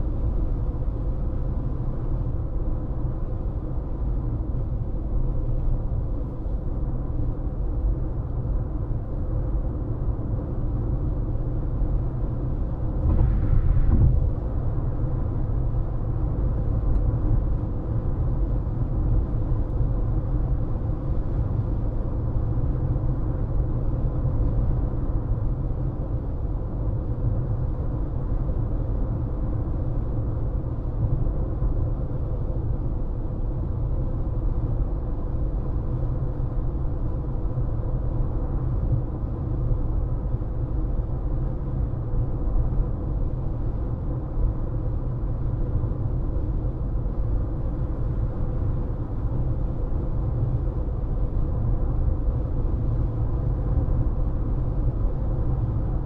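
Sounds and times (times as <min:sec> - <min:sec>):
car tyre and road rumble: 0:00.0 - 0:56.0
faint constant hum: 0:00.0 - 0:56.0.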